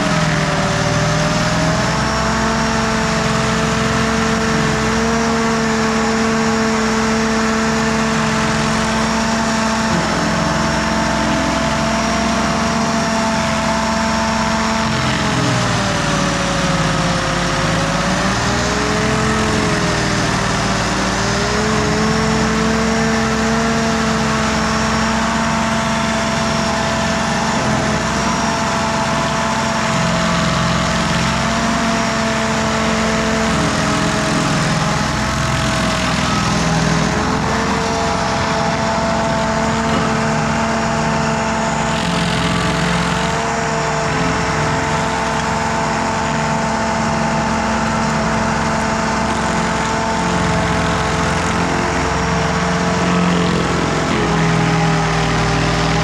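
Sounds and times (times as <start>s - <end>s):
grinding cutting noise: 0.0s - 56.0s
stump grinder engine: 0.0s - 56.0s.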